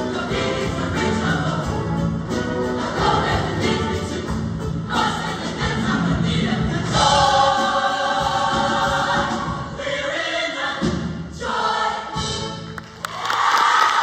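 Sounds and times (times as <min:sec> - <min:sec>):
choir singing in harmony: 0:00.0 - 0:12.8.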